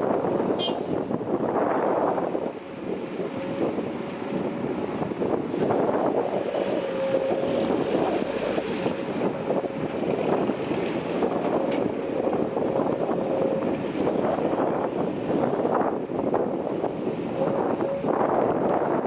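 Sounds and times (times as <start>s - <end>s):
heavy diesel machinery running: 0.0s - 19.0s
wind buffeting microphone: 0.0s - 19.0s.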